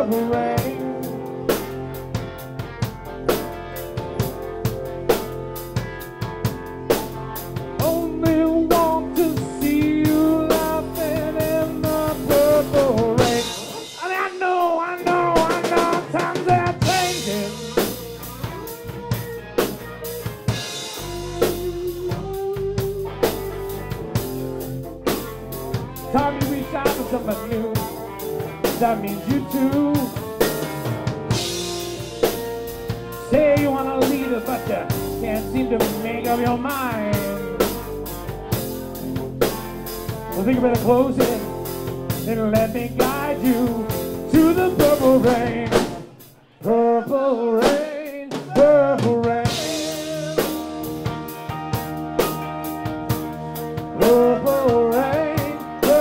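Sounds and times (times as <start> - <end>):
lead guitar bending notes: 0.0 - 46.3, 49.4 - 56.0
bass guitar: 0.0 - 56.0
drum kit: 0.0 - 56.0.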